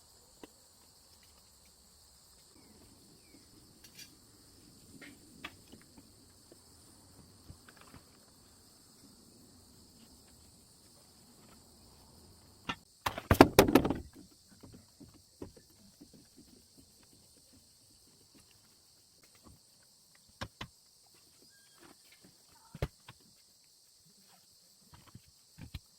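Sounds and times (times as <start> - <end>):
insects chirring: 0.0 - 25.9.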